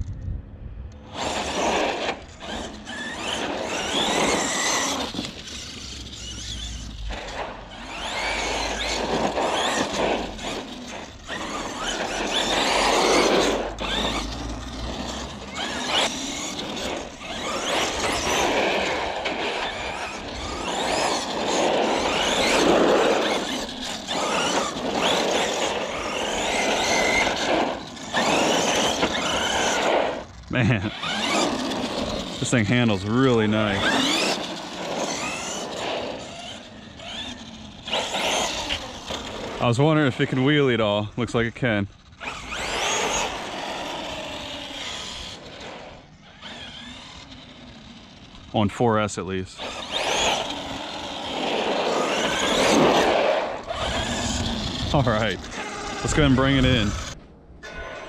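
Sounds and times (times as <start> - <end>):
rc truck motor whining: 0.8 - 58.0.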